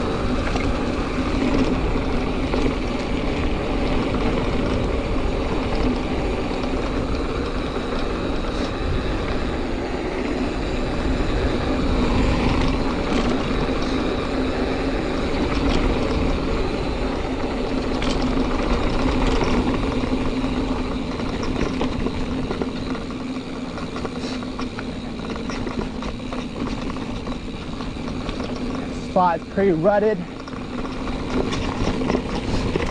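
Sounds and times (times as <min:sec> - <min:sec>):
bike clicks and rattles: 0:00.0 - 0:32.9
bike tyres rolling on dirt: 0:00.0 - 0:32.9.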